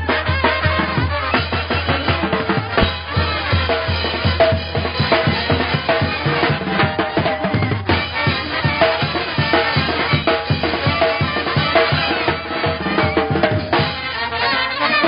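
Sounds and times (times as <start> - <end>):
drums beating: 0.0 - 14.2
band playing live: 0.0 - 15.0
held brass notes: 0.0 - 15.0.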